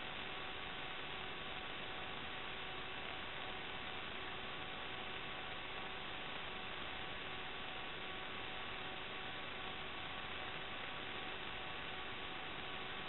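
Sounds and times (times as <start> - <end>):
faint hum: 0.0 - 13.0
steady electronic hiss: 0.0 - 13.0.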